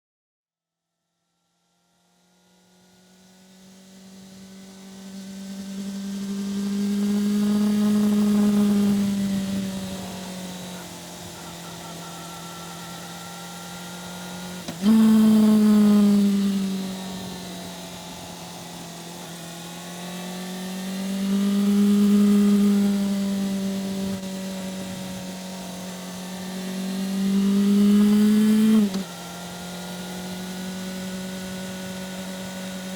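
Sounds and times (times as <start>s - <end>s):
motorcycle engine running: 1.8s - 32.9s.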